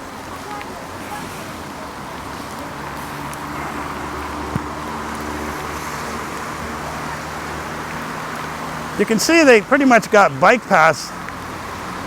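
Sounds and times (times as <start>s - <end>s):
rain hiss: 0.0s - 12.0s
traffic engine hum: 0.0s - 12.0s
tyres on wet pavement: 0.0s - 12.0s.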